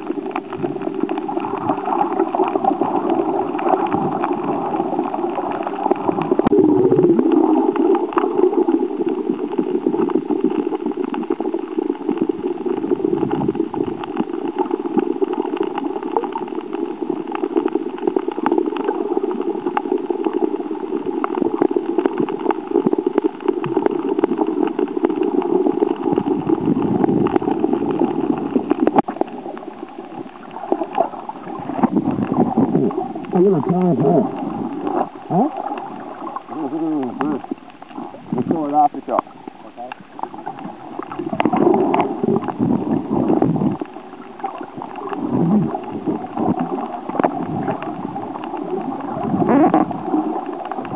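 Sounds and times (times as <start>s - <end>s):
muffled underwater gurgling: 0.0s - 50.9s.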